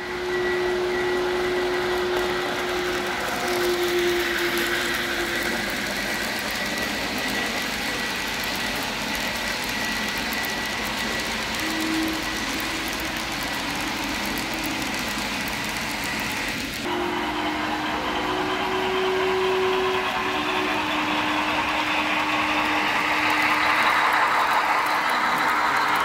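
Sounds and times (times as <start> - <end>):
model train whirring and rattling: 0.0 - 26.0.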